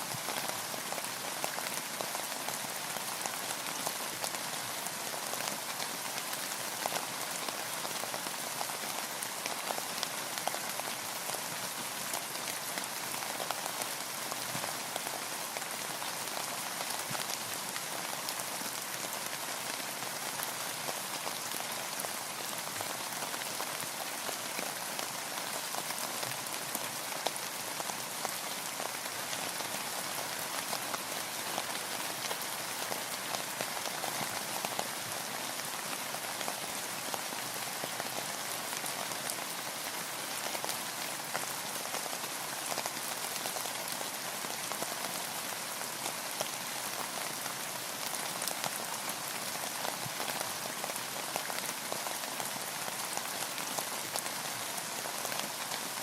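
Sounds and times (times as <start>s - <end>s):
rain falling on a boat: 0.0s - 56.0s.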